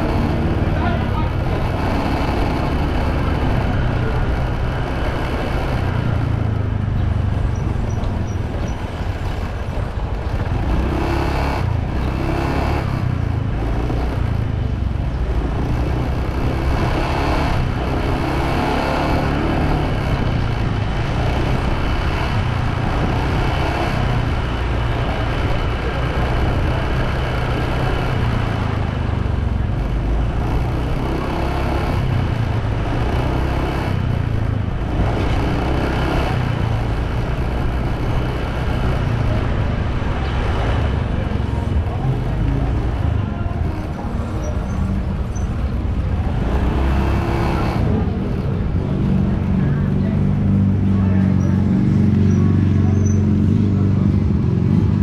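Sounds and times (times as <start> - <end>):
motorbike engine and road noise: 0.0 - 55.0.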